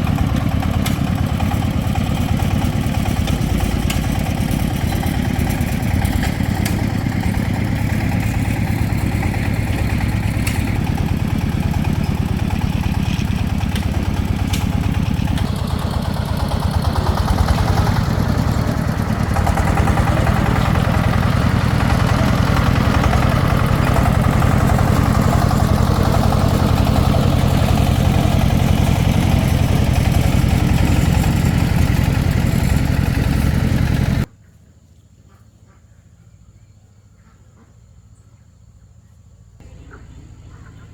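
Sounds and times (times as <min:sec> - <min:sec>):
diesel engine idling: 0:00.0 - 0:34.3, 0:39.6 - 0:40.9.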